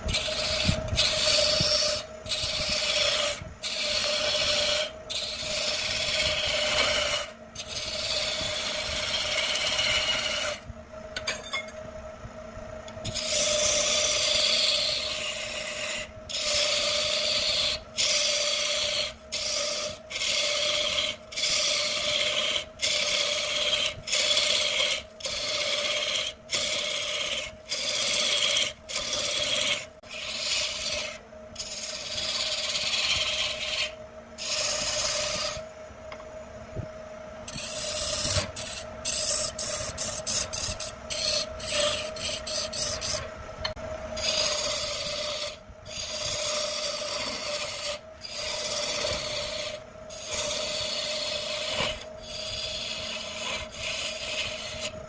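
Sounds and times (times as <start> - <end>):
lathe motor hum: 0.0 - 10.6, 13.1 - 35.6, 37.5 - 55.0
lathe tool cutting wood: 0.1 - 10.6, 13.1 - 35.6, 37.5 - 43.2, 44.2 - 54.9.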